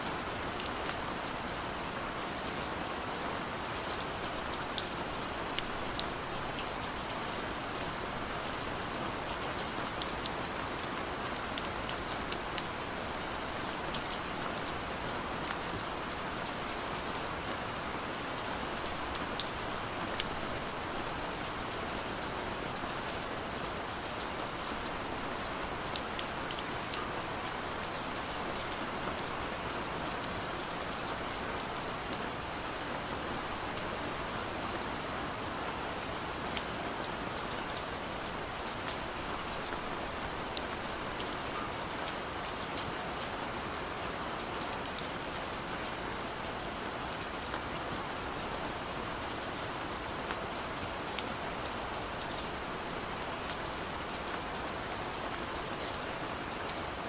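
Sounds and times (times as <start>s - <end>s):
gentle rain hiss: 0.0s - 57.0s.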